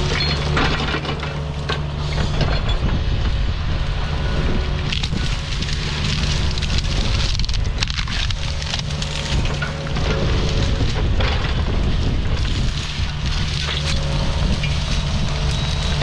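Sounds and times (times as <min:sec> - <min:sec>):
branches crackling and snapping: 0:00.0 - 0:02.9, 0:03.8 - 0:16.0
excavator engine running: 0:00.0 - 0:16.0.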